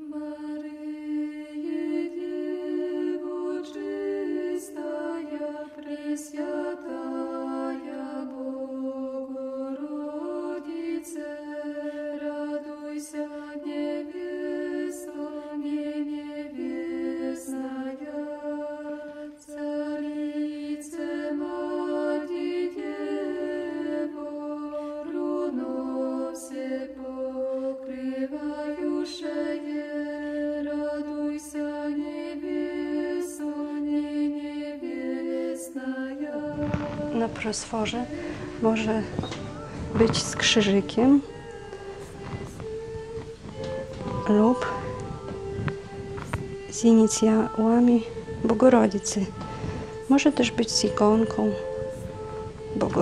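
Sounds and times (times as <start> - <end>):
slow vocal chant: 0.0 - 53.0.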